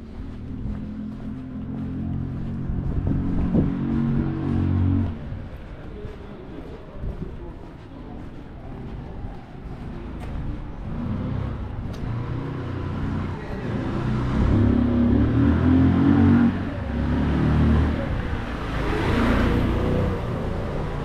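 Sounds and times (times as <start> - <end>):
vehicle pulling away: 0.0 - 6.1, 9.6 - 21.0
vehicle passing by: 0.0 - 6.2, 8.7 - 21.0.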